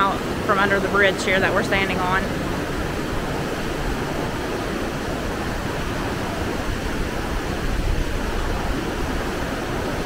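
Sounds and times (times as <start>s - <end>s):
whitewater rapids roaring: 0.0s - 10.0s.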